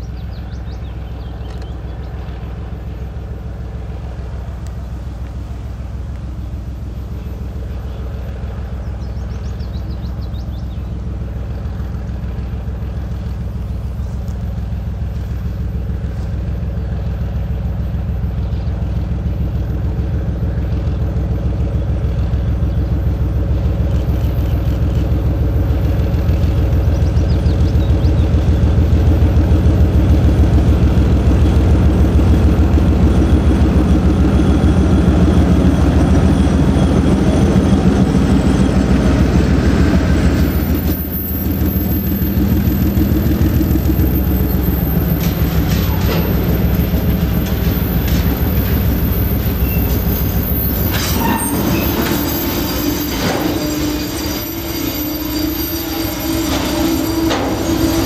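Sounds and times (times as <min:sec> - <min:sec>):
diesel locomotive engine: 0:00.0 - 0:58.0
freight wagons rolling by: 0:07.2 - 0:58.0.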